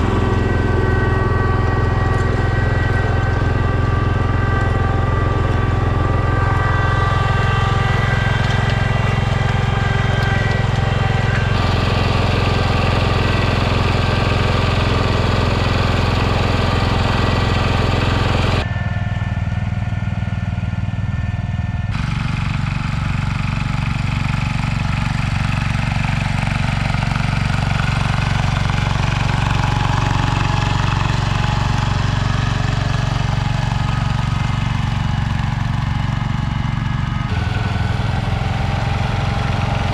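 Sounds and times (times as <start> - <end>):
garden tractor engine running: 0.0 - 18.7, 21.9 - 39.9.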